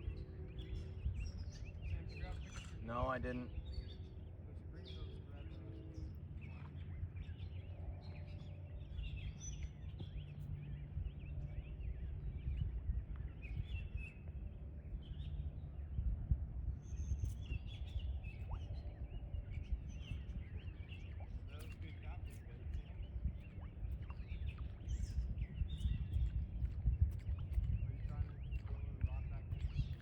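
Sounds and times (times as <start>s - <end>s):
small birds chirping: 0.0s - 16.0s, 16.8s - 30.0s
steady low rumble: 0.0s - 30.0s.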